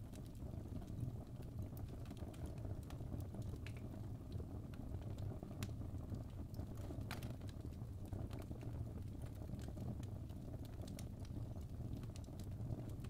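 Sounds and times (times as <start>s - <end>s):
fire crackling and popping: 0.0s - 13.0s
low rumble of burning flames: 0.0s - 13.0s.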